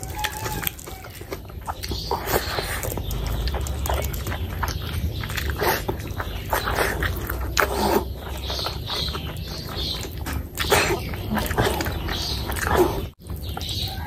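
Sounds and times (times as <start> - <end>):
hand squishing food: 0.0 - 14.0
wet chewing and lip-smacking: 0.0 - 14.0.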